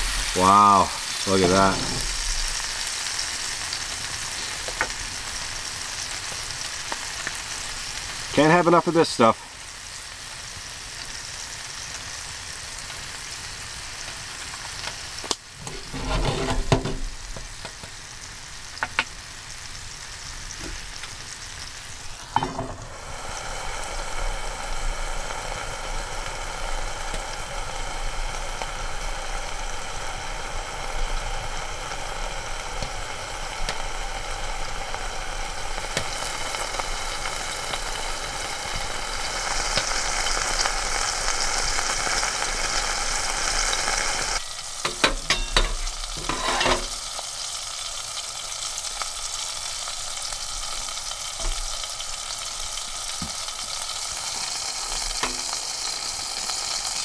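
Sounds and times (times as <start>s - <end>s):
patty sizzling in frying pan: 0.0s - 57.0s.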